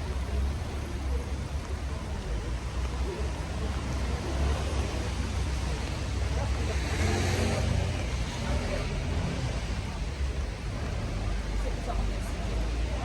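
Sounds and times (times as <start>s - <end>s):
continuous low rumble: 0.0s - 13.0s
rain falling on a street: 0.0s - 13.0s.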